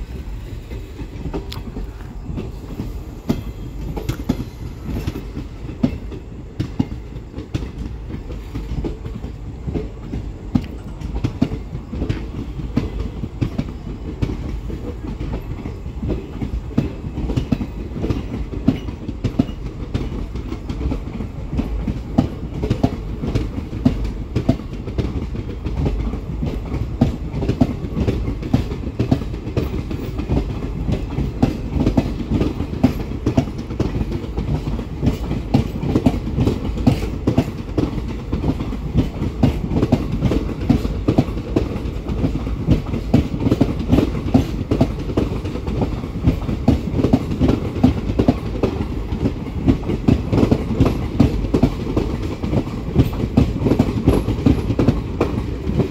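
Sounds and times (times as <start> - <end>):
train wheels clattering over rail joints: 0.0 - 55.9.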